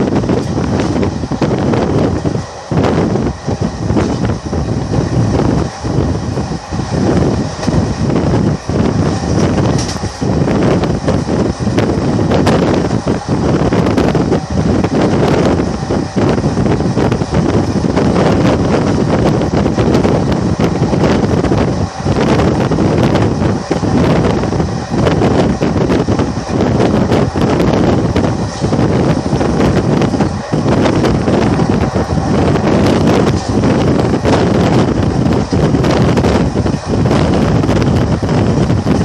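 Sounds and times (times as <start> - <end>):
train wheels on track: 0.0 - 39.0
wind buffeting microphone: 0.0 - 39.0.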